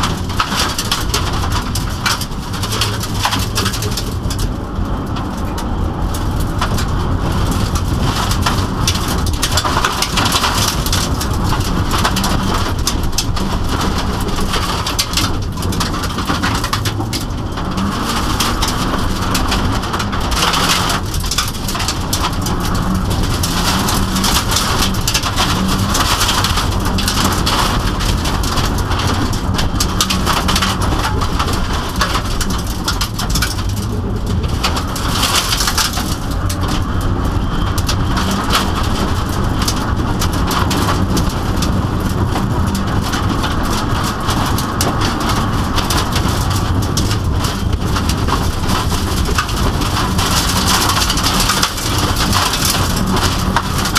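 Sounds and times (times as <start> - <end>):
car engine running hard: 0.0 - 53.9
gravel rattling against car underbody: 0.0 - 53.9.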